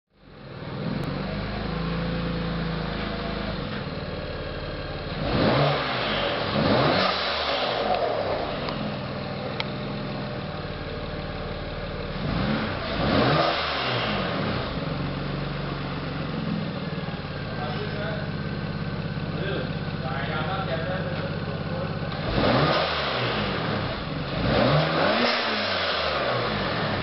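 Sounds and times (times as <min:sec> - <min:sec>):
car engine idling and revving: 0:00.1 - 0:27.0.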